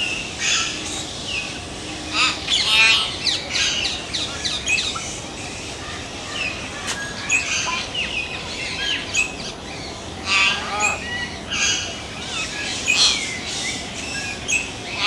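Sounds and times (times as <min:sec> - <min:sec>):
myna bird calling: 0:00.0 - 0:15.0.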